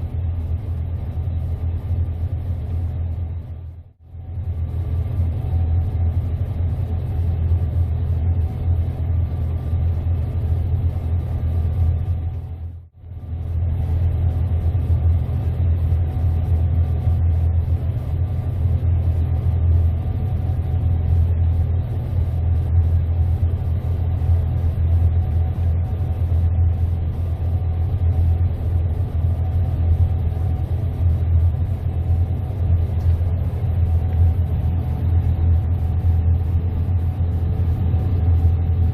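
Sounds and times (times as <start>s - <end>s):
combine harvester rumbling: 0.0s - 38.9s
faint steady machine tones: 0.0s - 38.9s.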